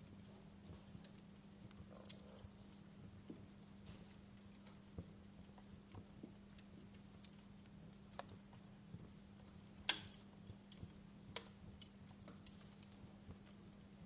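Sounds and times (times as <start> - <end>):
faint low hum: 0.0 - 14.0
wood fire crackling: 0.0 - 14.0.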